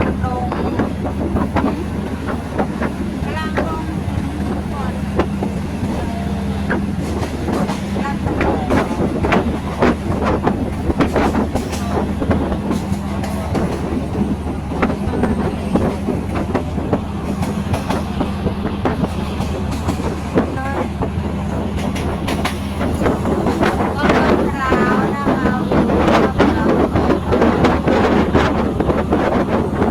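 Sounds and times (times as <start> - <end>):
train low rumble: 0.0 - 29.9
train wheels clicking on rail joints: 0.0 - 29.9.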